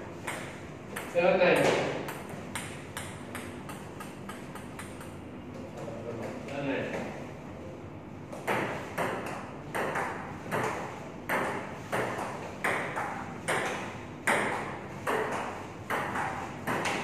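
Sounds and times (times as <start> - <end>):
table tennis ball hitting paddles: 0.2 - 7.1, 8.3 - 17.0.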